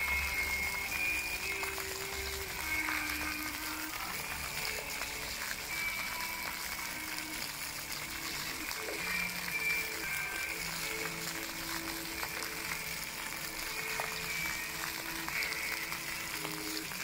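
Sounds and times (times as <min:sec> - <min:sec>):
fountain water splashing: 0:00.0 - 0:17.0
slow music with held notes: 0:00.0 - 0:17.0.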